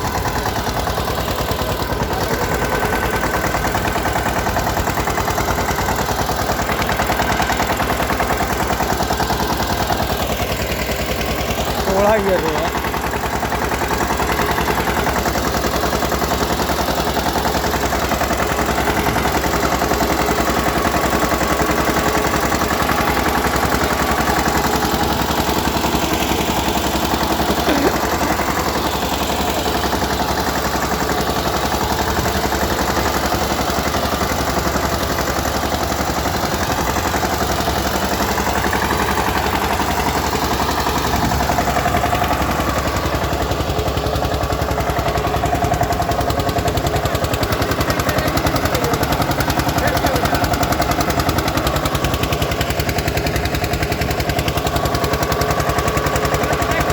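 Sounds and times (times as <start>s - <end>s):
tractor diesel engine chugging: 0.0s - 56.9s.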